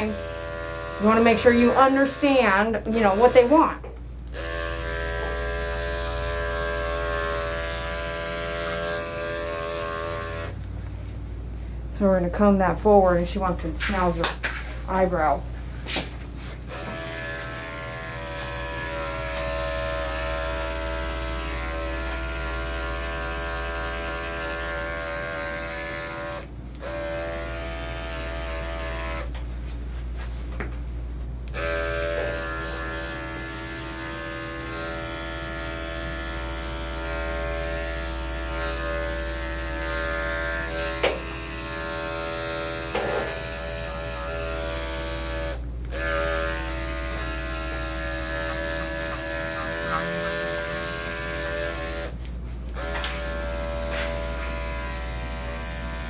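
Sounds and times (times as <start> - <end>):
electric clippers buzzing: 0.0 - 10.7, 15.9 - 29.4, 31.5 - 56.0.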